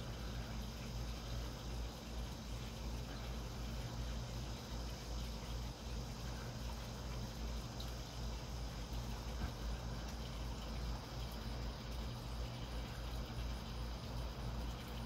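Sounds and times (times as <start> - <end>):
insect chirping: 0.0 - 15.0
low background hum: 0.0 - 15.0.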